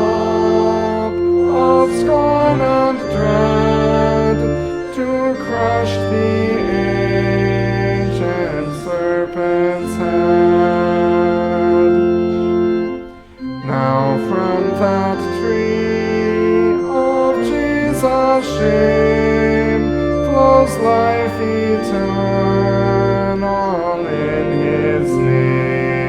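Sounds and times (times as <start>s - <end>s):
church organ playing hymn: 0.0s - 26.0s
voices singing: 0.0s - 26.0s.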